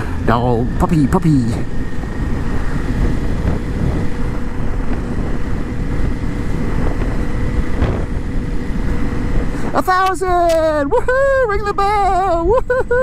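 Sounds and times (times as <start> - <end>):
motorcycle engine rumbling: 0.0 - 13.0
wind buffeting microphone: 0.0 - 13.0.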